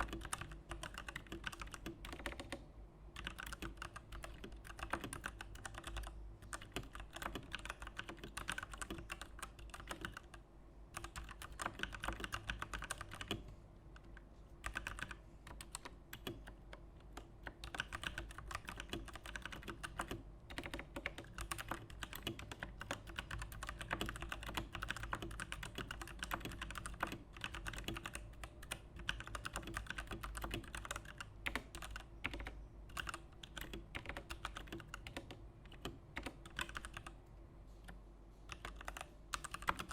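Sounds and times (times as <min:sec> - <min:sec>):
mechanical keyboard typing: 0:00.0 - 0:02.6, 0:03.2 - 0:10.4, 0:11.0 - 0:37.2, 0:37.8 - 0:39.9.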